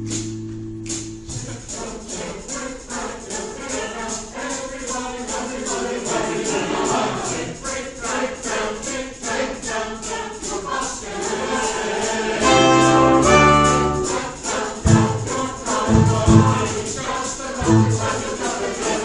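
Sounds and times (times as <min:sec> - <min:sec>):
instrumental accompaniment: 0:00.0 - 0:19.0
steady percussion beat: 0:00.0 - 0:19.0
mixed choir singing: 0:01.4 - 0:19.0.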